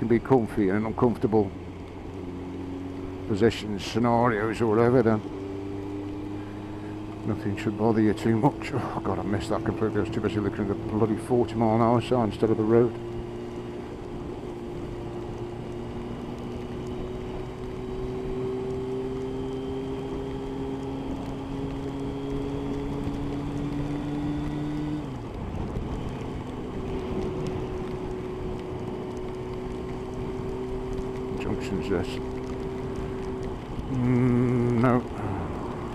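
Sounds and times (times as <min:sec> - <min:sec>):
motorcycle engine cruising: 0:00.0 - 0:35.9
steady wind noise: 0:03.0 - 0:35.9.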